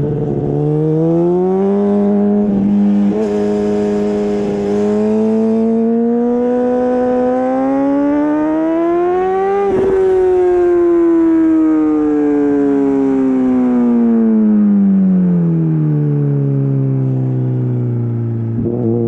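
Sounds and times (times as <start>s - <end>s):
motorcycle engine revving: 0.0s - 15.7s, 18.3s - 19.0s.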